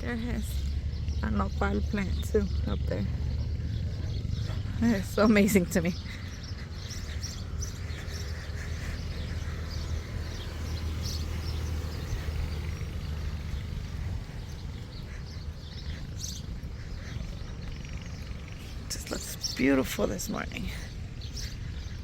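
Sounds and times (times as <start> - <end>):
low rumble: 0.0 - 19.4
birds chirping: 0.0 - 22.0.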